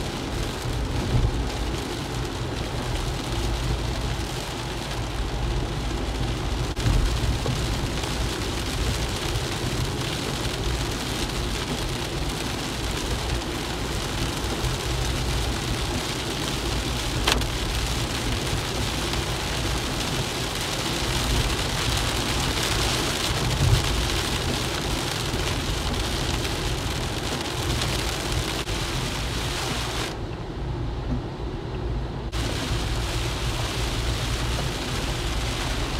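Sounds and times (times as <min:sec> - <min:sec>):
heavy rain on car roof: 0:00.0 - 0:30.2, 0:32.3 - 0:35.9
engine and tyres rumbling: 0:00.0 - 0:35.9.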